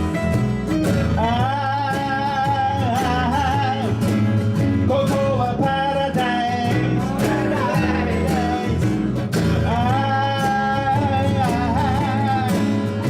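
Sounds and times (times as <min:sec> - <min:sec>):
guitar and bass: 0:00.0 - 0:13.0
person singing: 0:01.1 - 0:04.1, 0:04.8 - 0:13.0.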